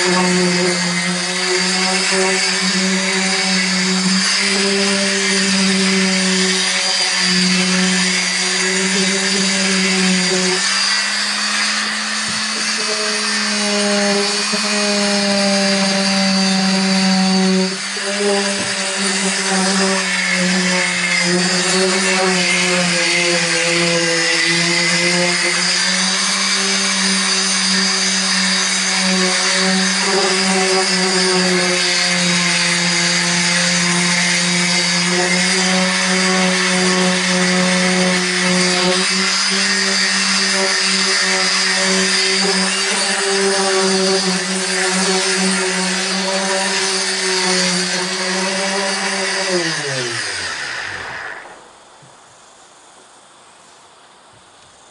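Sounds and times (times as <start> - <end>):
electric sander humming: 0.0 - 51.8.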